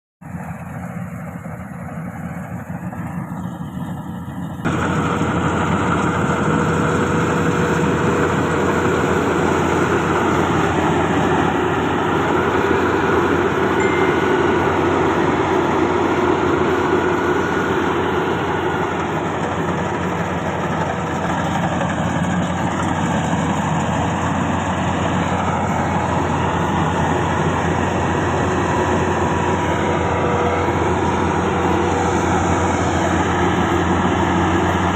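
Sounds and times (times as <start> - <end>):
harvesting machine engine running: 0.3 - 34.9.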